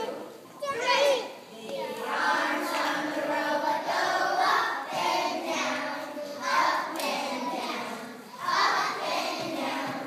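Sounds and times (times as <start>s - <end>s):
children singing together: 1.5s - 10.0s.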